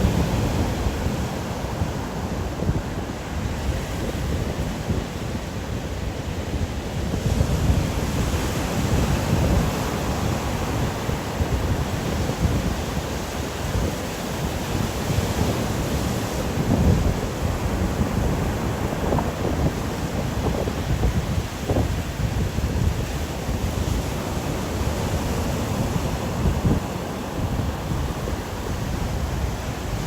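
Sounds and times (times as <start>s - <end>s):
stormy wind blowing in gusts: 0.0s - 30.0s.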